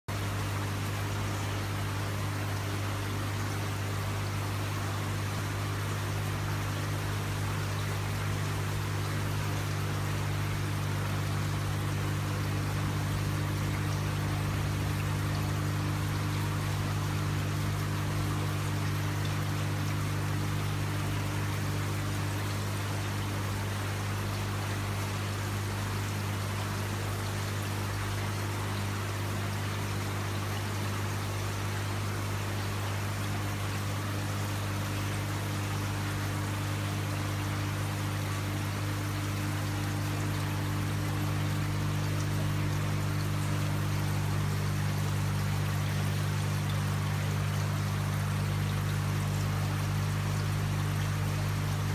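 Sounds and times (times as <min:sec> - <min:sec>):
fountain pump humming: 0:00.1 - 0:51.9
water splashing into fountain: 0:00.2 - 0:51.9.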